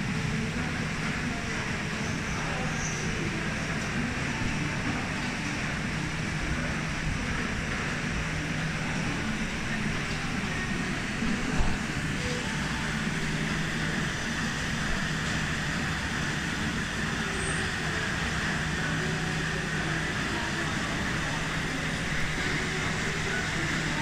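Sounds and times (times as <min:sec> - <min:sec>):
sorting machine drone: 0:00.0 - 0:24.0.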